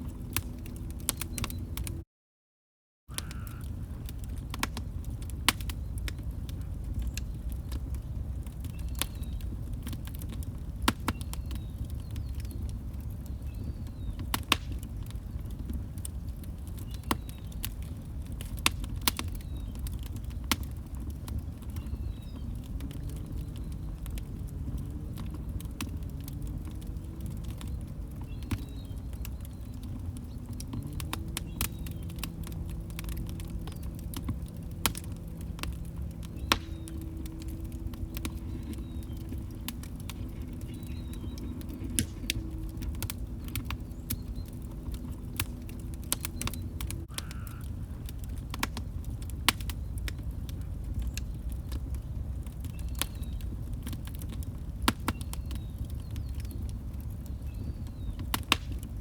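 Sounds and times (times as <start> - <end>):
log fire crackling: 0.0 - 2.0, 3.1 - 59.0.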